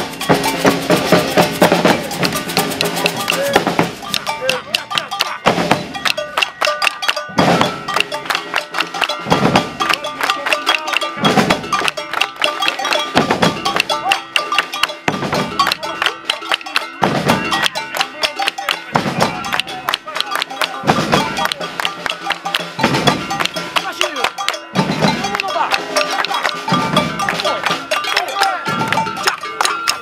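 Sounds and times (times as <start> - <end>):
percussion ensemble drumming: 0.0 - 30.0.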